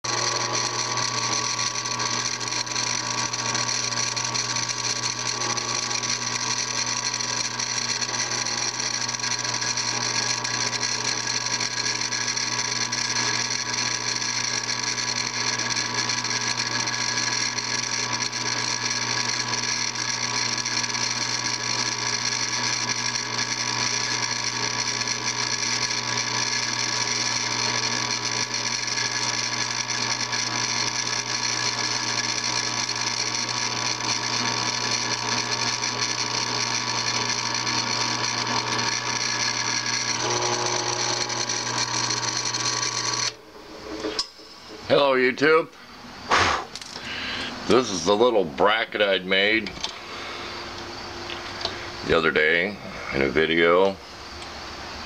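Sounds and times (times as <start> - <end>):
drill press motor humming: 0.0 - 44.8.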